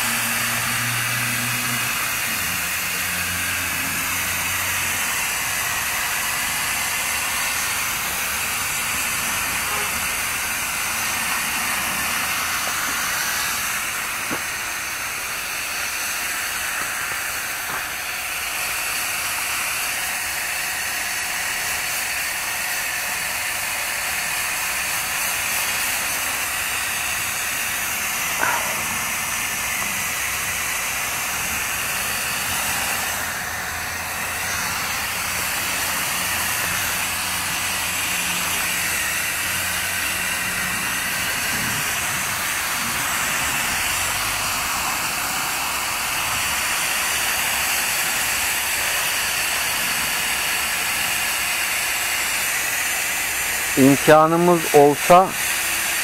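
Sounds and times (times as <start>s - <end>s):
spray nozzle hissing: 0.0s - 19.9s, 24.2s - 56.0s.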